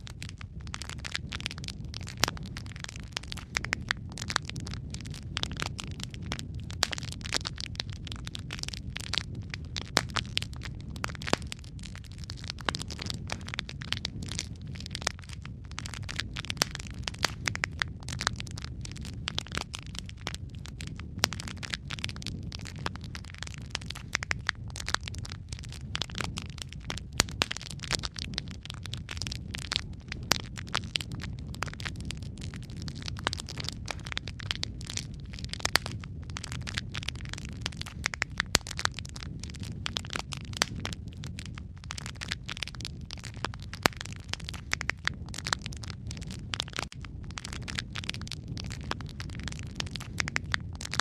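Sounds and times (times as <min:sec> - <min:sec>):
fire crackling and popping: 0:00.0 - 0:51.0
low rumble of flames: 0:00.0 - 0:51.0.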